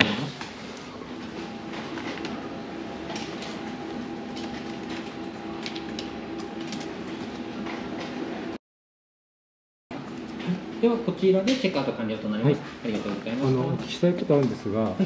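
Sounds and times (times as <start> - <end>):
indoor machine hum: 0.0 - 8.6, 9.9 - 15.0.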